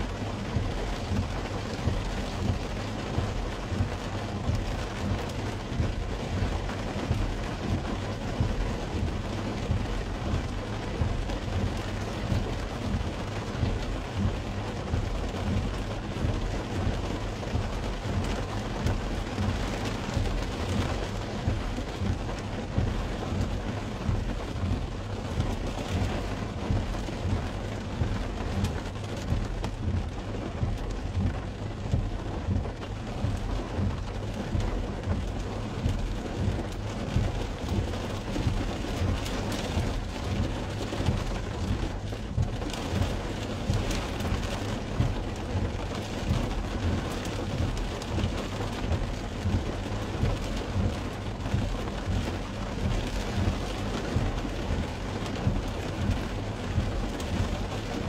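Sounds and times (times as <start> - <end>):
rain on car windscreen and roof: 0.0 - 58.0
steady low rumble: 0.0 - 58.0.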